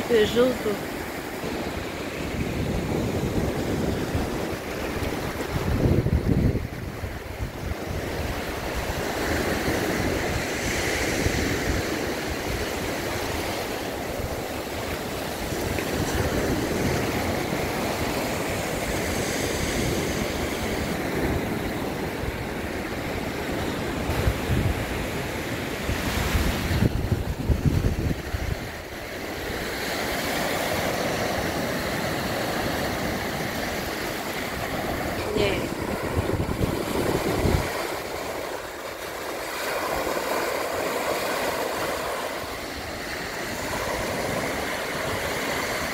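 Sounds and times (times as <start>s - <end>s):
small waves breaking on sand: 0.0s - 45.9s
wind buffeting microphone: 1.4s - 41.0s.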